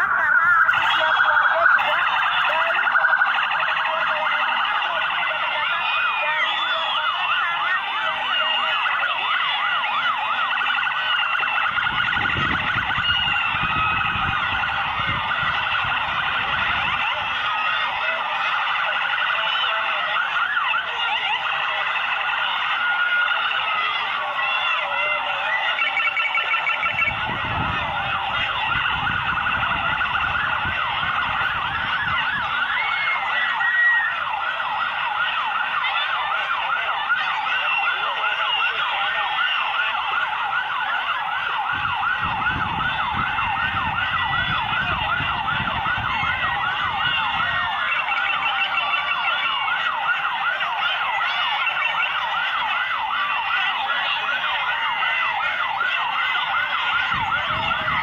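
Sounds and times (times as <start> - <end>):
sirens yelping: 0.0 - 58.0.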